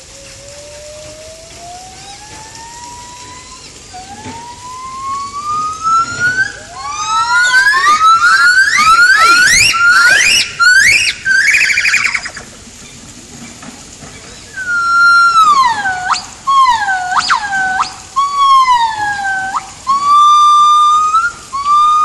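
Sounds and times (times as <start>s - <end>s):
gibbons whooping: 0.0s - 12.5s, 14.5s - 22.0s.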